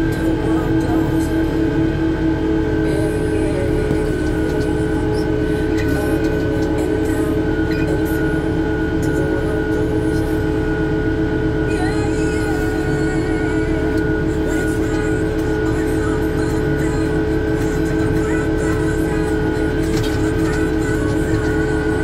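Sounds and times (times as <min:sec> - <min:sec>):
steady whining tones: 0:00.0 - 0:22.0
wheel loader diesel drone: 0:00.0 - 0:22.0.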